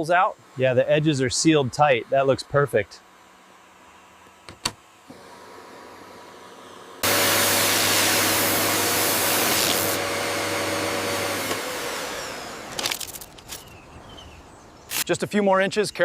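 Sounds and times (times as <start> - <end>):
electric air tool running: 0.7 - 13.6.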